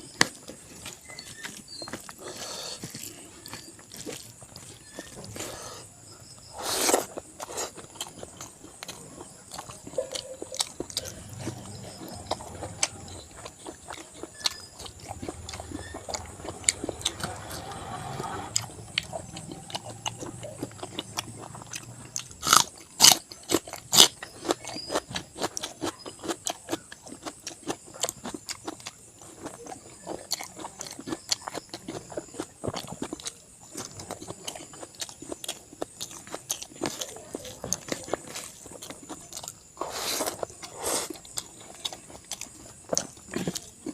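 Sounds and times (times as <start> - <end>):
person chewing wetly: 0.0 - 43.9.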